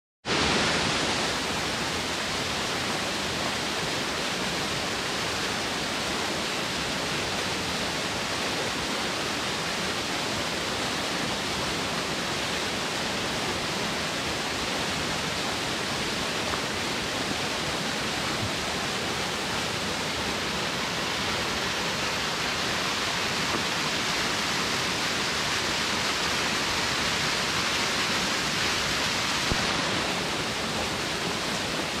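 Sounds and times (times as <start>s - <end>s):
small waterfall pouring: 0.3s - 32.0s.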